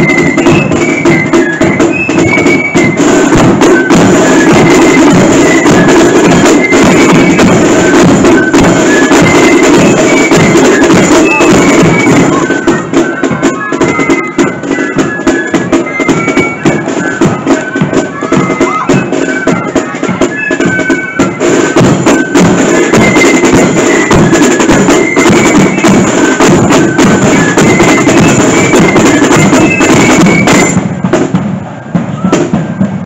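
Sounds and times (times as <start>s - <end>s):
flutes playing melody: 0.0s - 33.0s
snare and bass drums: 0.0s - 33.0s.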